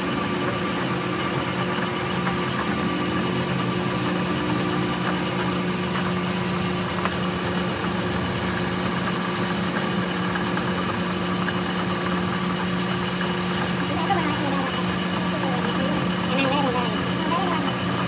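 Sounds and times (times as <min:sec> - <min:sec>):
machine motor humming: 0:00.0 - 0:18.0.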